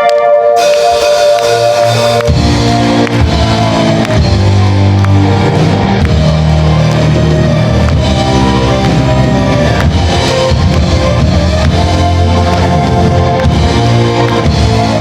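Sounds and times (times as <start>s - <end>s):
electric guitar: 0.0s - 15.0s
keyboard chords: 0.0s - 15.0s
bass guitar: 0.6s - 15.0s
drum kit: 0.6s - 15.0s.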